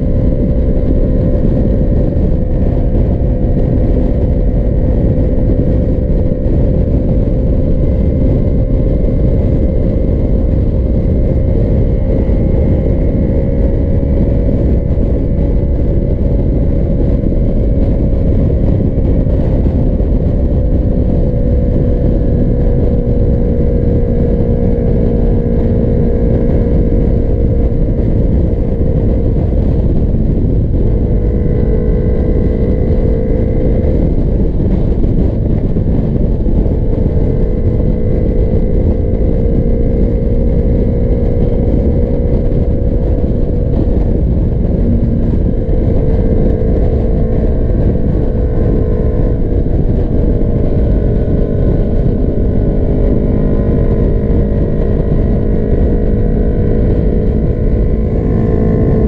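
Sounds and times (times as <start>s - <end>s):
motorcycle engine drone: 0.0s - 59.0s
wind rush over microphone: 0.0s - 59.0s.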